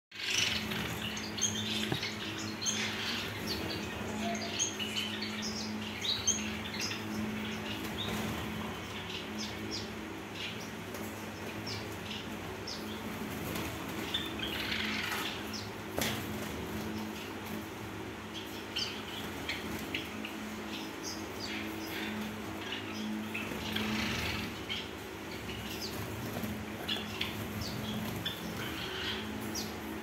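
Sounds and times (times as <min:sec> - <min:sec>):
sparrows chirping: 0:00.1 - 0:30.0
steady low hum: 0:00.2 - 0:30.0.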